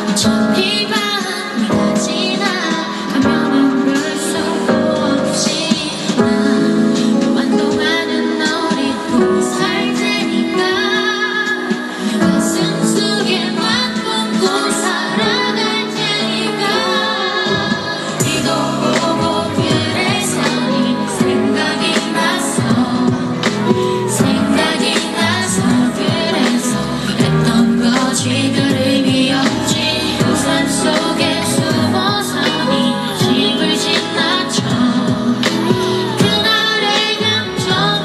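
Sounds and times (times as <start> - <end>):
backing track music: 0.0 - 38.0
woman singing pop song: 0.0 - 38.0.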